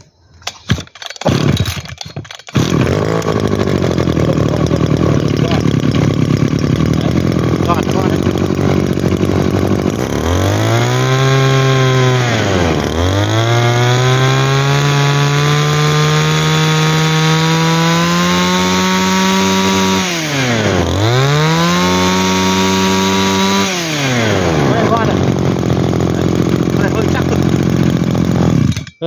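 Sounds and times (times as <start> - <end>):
brush cutter engine revving: 0.5 - 29.0.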